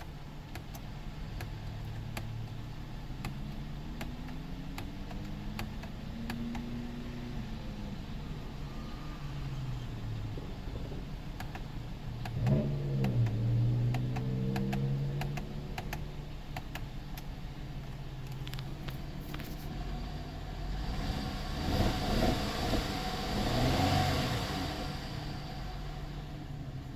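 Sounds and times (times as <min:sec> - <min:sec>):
car engine rough idle: 0:00.0 - 0:23.4.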